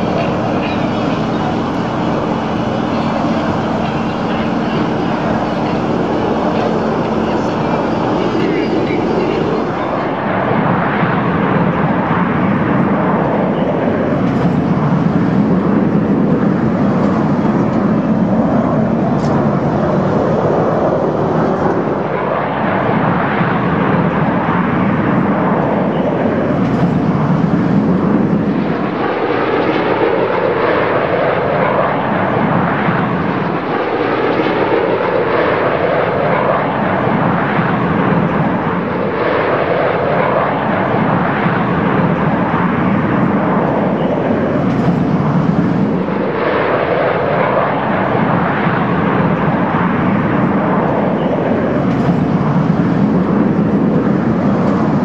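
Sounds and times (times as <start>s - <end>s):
jets flying past: 0.0s - 55.0s.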